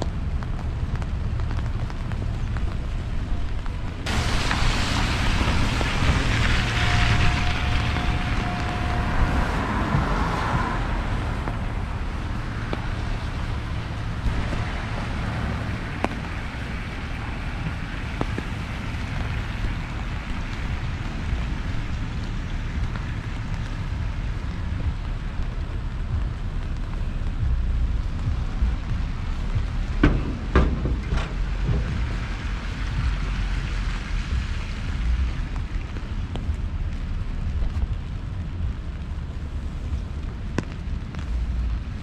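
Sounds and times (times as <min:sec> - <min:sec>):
low traffic rumble: 0:00.0 - 0:42.0
rain on an umbrella: 0:00.0 - 0:42.0
raindrop ticks: 0:00.0 - 0:42.0
tyres hissing on wet street: 0:00.0 - 0:42.0.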